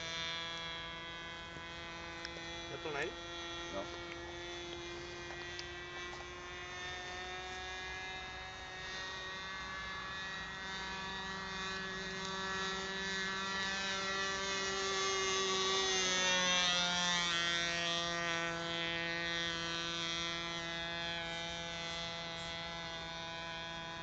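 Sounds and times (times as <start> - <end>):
model airplane motor droning: 0.0 - 24.0.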